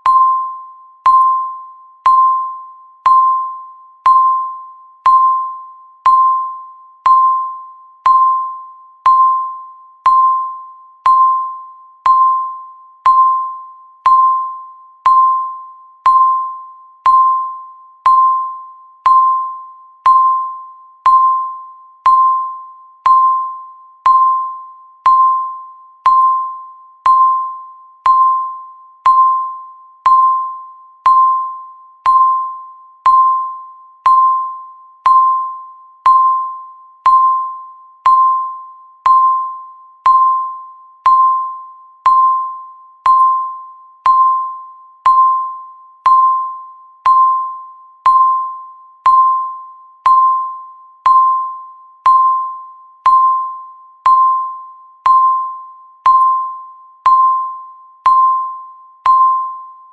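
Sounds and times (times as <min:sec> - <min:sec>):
timer beeping: 0:00.0 - 0:59.9.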